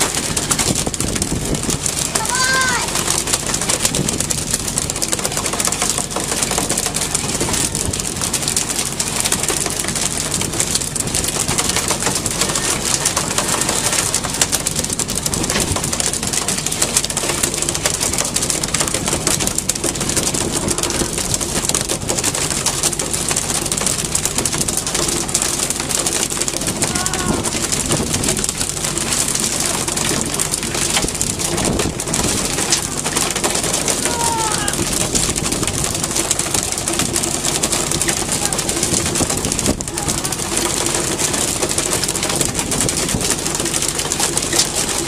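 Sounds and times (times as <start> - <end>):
boat engine running: 0.0 - 45.0
rushing wind and water: 0.0 - 45.0.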